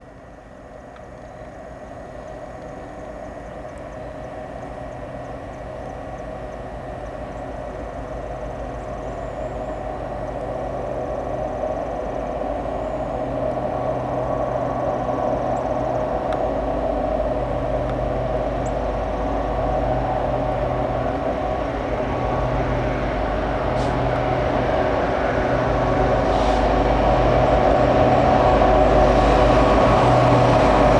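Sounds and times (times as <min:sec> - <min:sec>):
diesel locomotive engine drone: 0:00.0 - 0:30.9.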